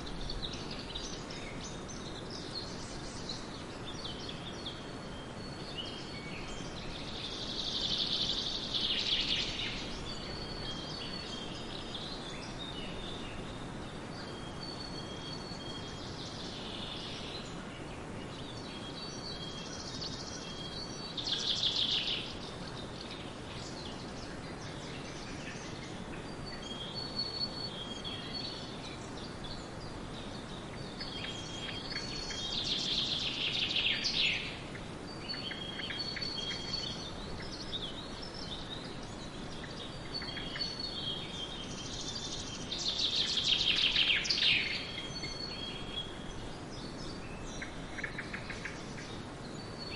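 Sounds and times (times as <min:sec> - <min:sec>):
background hiss: 0:00.0 - 0:49.9
birds chirping and trilling: 0:00.0 - 0:49.9.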